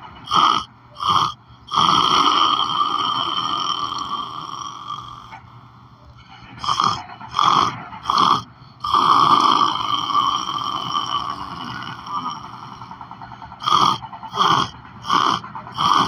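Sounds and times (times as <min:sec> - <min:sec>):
person snoring: 0:00.3 - 0:05.5, 0:06.2 - 0:16.0.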